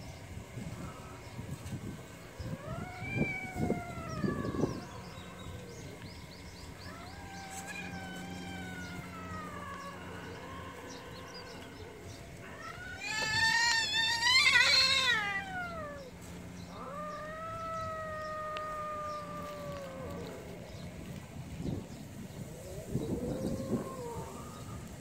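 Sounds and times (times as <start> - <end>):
cats yowling: 0.6 - 25.0.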